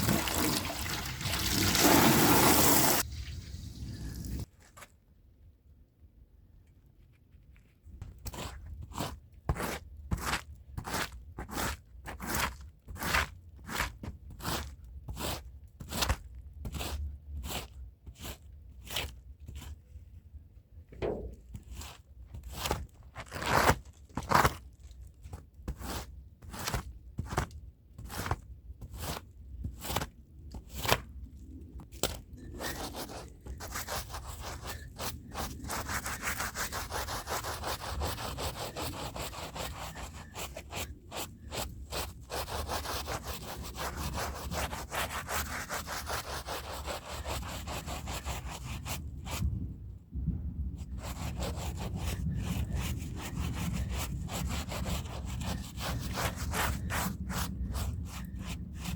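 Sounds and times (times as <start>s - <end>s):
brush scrubbing a rug: 0.0s - 3.1s, 8.3s - 19.8s, 21.0s - 24.6s, 25.3s - 31.0s, 32.4s - 49.4s, 50.8s - 58.9s.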